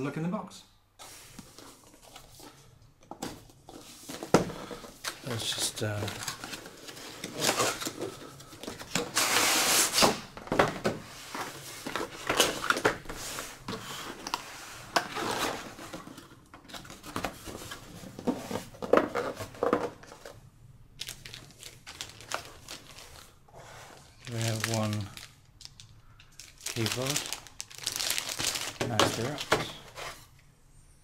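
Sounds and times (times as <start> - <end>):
packaging rustling and scraping: 1.0 - 30.4.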